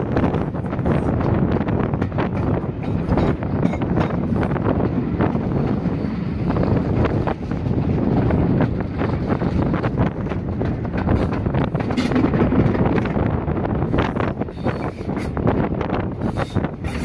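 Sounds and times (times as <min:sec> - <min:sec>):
train rumbling along track: 0:00.0 - 0:17.0
wind buffeting microphone: 0:00.0 - 0:17.0.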